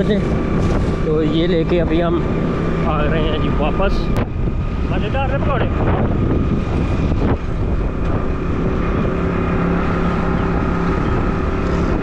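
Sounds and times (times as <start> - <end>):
vehicle engine running: 0.0 - 12.0
wind noise on microphone: 0.0 - 12.0.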